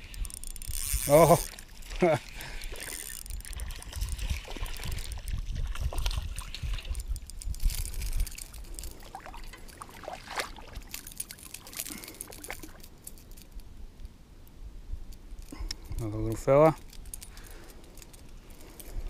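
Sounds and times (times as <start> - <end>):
fishing reel winding: 0.0 - 9.8, 10.8 - 13.6, 15.4 - 19.0.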